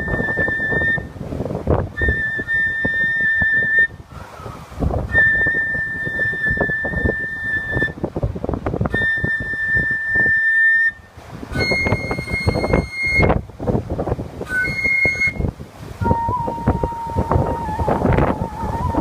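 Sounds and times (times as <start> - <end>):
flute playing long held notes: 0.0 - 1.2, 1.9 - 8.0, 8.9 - 13.4, 14.4 - 19.0
wind gusts buffeting microphone: 0.0 - 19.0.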